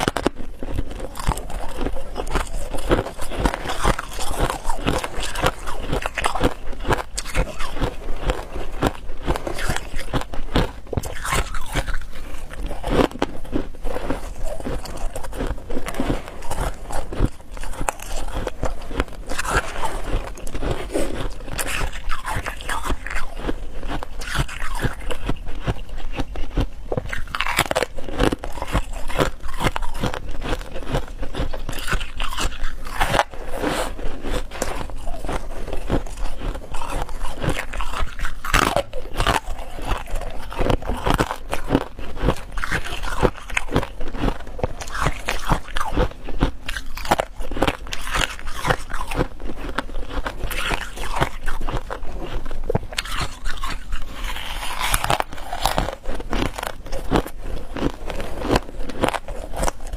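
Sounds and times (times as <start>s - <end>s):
person chewing hard ice: 0.0s - 59.9s.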